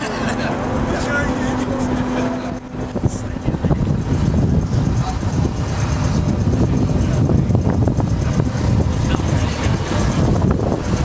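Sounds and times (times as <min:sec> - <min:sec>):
large engine rumbling: 0:00.0 - 0:11.0
wind buffeting microphone: 0:00.0 - 0:11.0.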